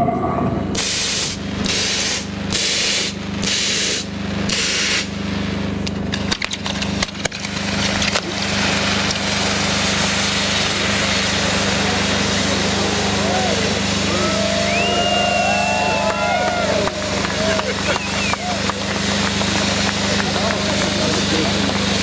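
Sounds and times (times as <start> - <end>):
steady low hum: 0.0 - 22.0
firework fountain hissing: 0.7 - 22.0
sharp firework cracks: 0.8 - 12.7, 15.7 - 22.0.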